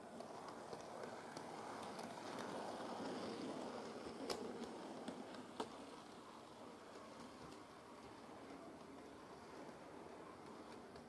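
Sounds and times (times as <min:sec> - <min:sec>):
model train motor whirring: 0:00.0 - 0:11.0
sharp clicks of wheels: 0:00.0 - 0:11.0.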